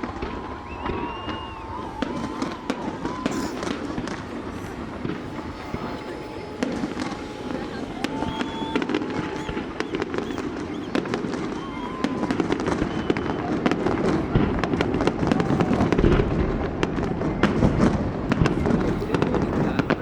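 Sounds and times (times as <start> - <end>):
firework whistling: 0.0 - 20.0
fireworks bangs and crackles: 0.0 - 20.0.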